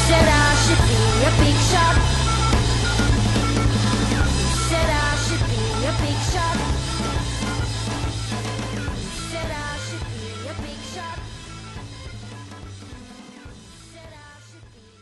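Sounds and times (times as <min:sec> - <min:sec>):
rock music with drums and guitar: 0:00.0 - 0:15.0.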